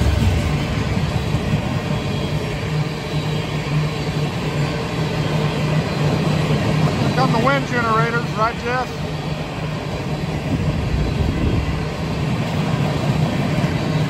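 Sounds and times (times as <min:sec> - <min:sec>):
constant low drone: 0:00.0 - 0:14.0
train wheels rumbling on rail: 0:00.0 - 0:14.0.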